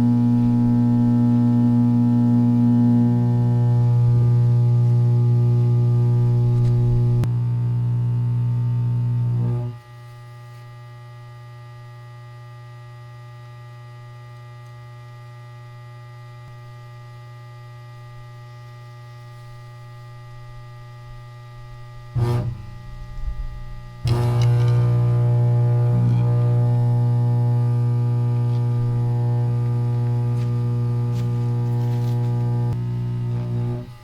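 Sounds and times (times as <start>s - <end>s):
carbon arc buzzing: 0.0s - 34.0s
welder mains hum: 0.0s - 34.0s.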